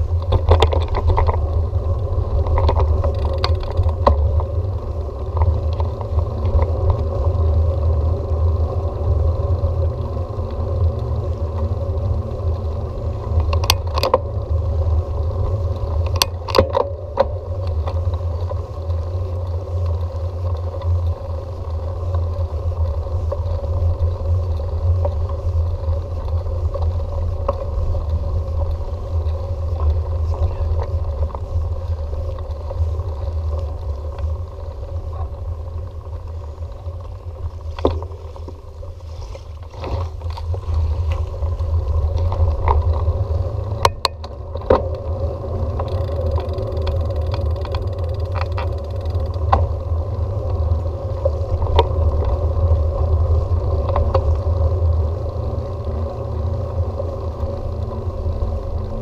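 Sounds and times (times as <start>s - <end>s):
sharp clicks and rattles: 0.0s - 7.3s, 9.4s - 38.9s, 39.6s - 52.8s
wind and road noise rumble: 0.0s - 59.0s.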